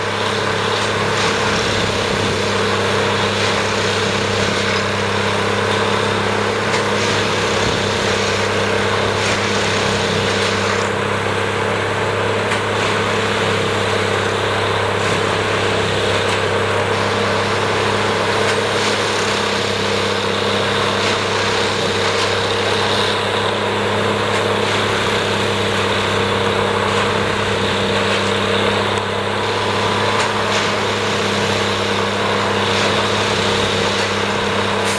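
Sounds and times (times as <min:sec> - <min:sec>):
tamping machine engine humming: 0:00.0 - 0:34.9.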